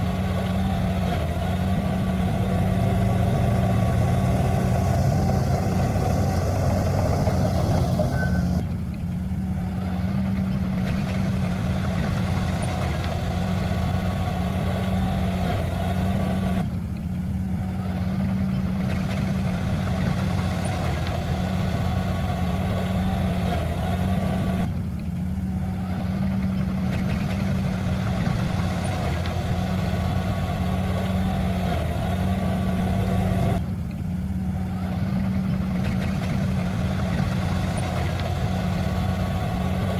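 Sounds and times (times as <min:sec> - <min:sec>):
heavy diesel engine running: 0:00.0 - 0:39.9
rough mechanical noise: 0:00.0 - 0:39.9.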